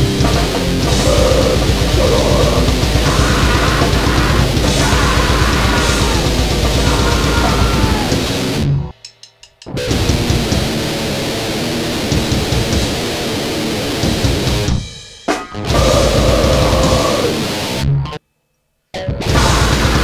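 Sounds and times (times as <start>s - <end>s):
distorted guitar and drums: 0.0s - 18.2s, 19.0s - 20.0s.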